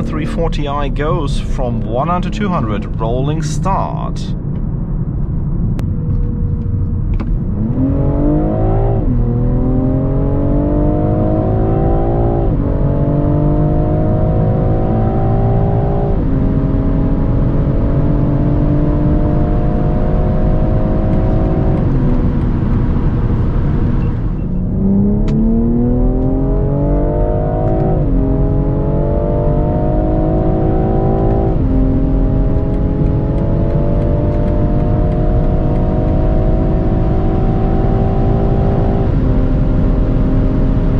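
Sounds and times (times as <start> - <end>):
car engine accelerating hard: 0.0 - 5.0, 5.8 - 40.9.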